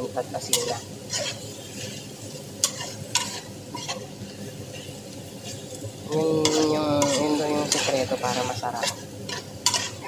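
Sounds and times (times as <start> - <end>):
onions sizzling in hot oil: 0.0 - 10.0
ladle scraping pan: 0.5 - 10.0.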